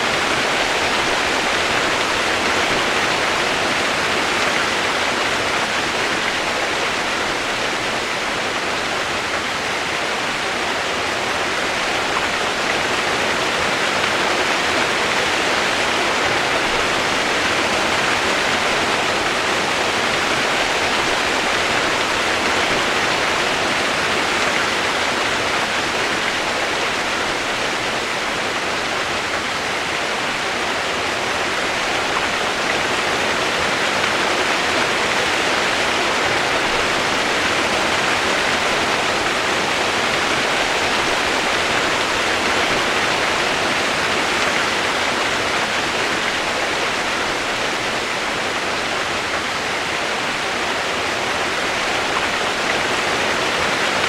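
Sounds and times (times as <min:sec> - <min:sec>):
rush of flowing water: 0:00.0 - 0:54.0.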